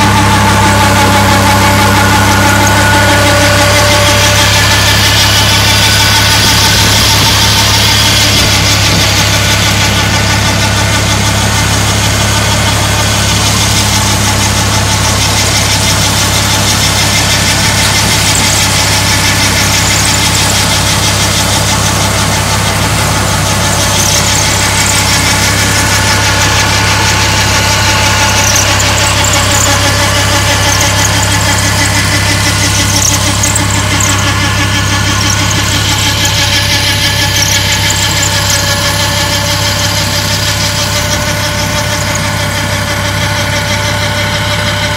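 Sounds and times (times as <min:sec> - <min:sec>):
harvest machinery whirring: 0:00.0 - 0:44.9
tractor engine running: 0:00.0 - 0:44.9.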